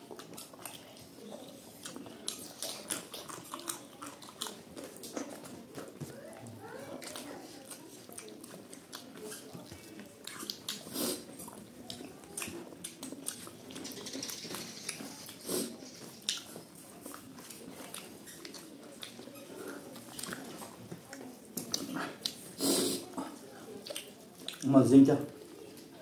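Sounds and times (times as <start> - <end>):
people chewing and lip smacking: 0.0 - 26.0.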